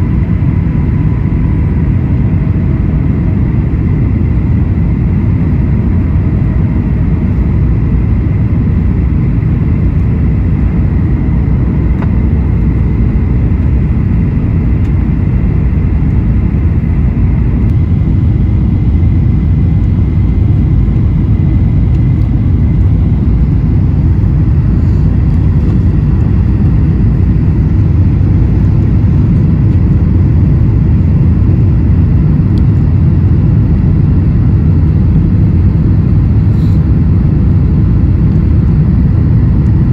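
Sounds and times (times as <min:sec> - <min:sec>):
airplane engine rumble in cabin: 0:00.0 - 0:39.9.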